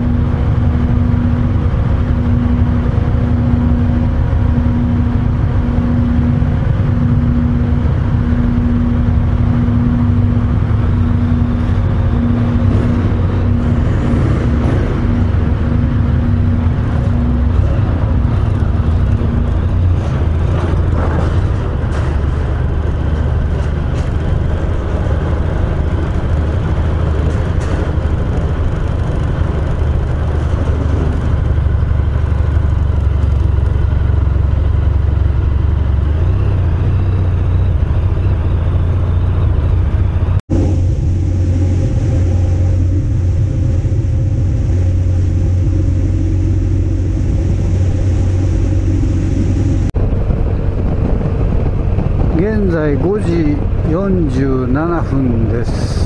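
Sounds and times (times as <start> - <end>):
motorcycle engine running: 0.0 - 54.5
motorcycle cruising at speed: 0.0 - 56.0.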